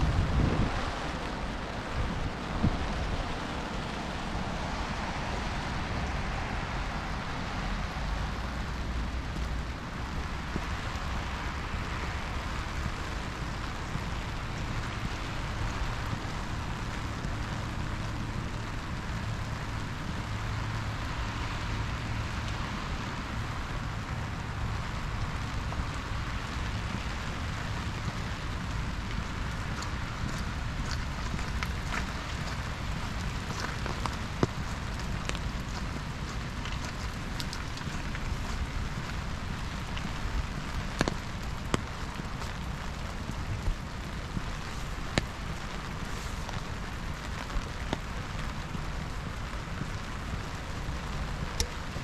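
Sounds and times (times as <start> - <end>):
low steady rumble: 0.0 - 52.0
steady rain falling: 0.0 - 52.0.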